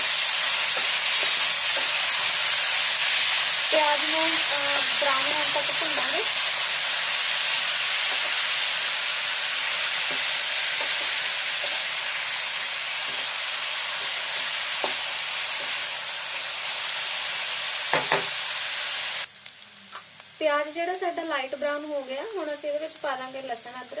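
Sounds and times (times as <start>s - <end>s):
onion sizzling in hot oil: 0.0s - 24.0s.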